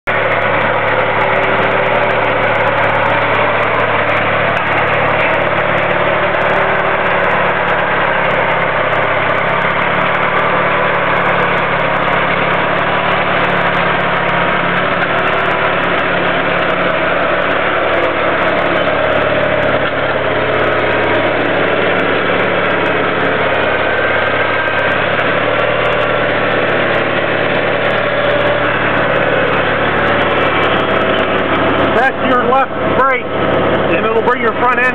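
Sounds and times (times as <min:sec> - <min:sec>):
tractor engine running steadily: 0:00.0 - 0:34.9.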